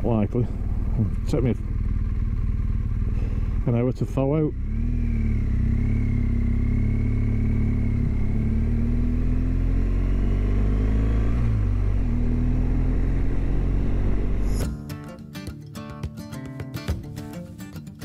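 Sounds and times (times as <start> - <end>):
motorcycle engine cruising: 0.0 - 14.8.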